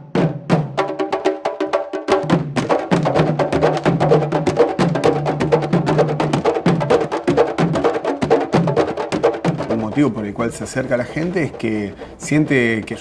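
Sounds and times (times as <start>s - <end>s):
drums in fast rhythm: 0.0s - 13.0s.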